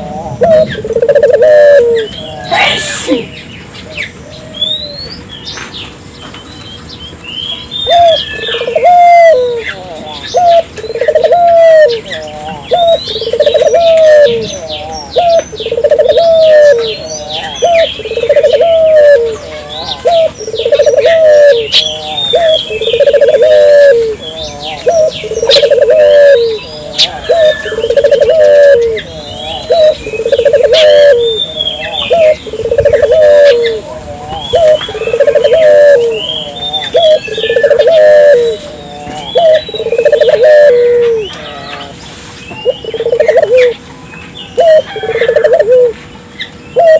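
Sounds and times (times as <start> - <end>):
doves cooing: 0.0 - 3.4, 7.6 - 42.0, 42.6 - 43.9, 44.5 - 46.9
small birds chirping: 0.0 - 46.9.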